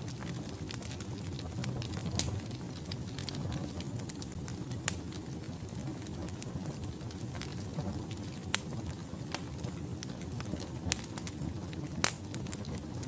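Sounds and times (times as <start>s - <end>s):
fire low rumble: 0.0s - 13.0s
logs crackling and popping: 0.0s - 13.0s.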